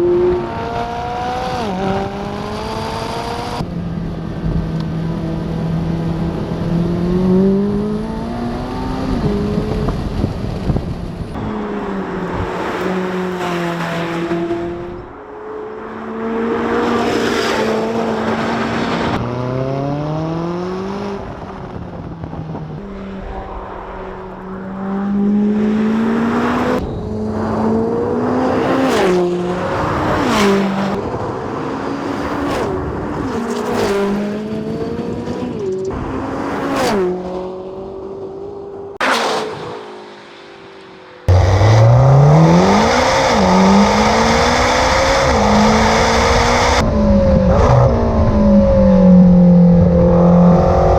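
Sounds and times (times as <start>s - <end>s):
sports car accelerating hard: 0.0s - 50.9s.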